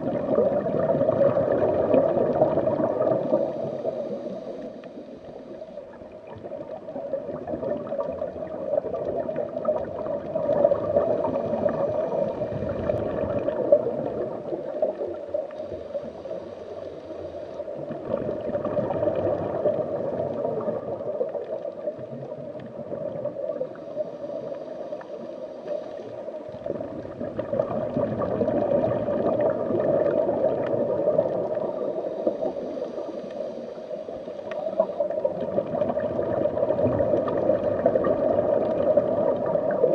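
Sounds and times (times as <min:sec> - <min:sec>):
water bubbling and gurgling: 0:00.0 - 0:39.9.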